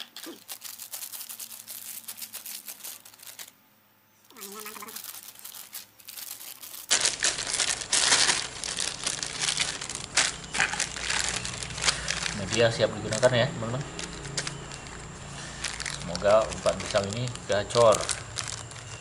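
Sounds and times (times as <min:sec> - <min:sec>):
plastic bag crinkling: 0:00.0 - 0:03.6, 0:04.3 - 0:19.0.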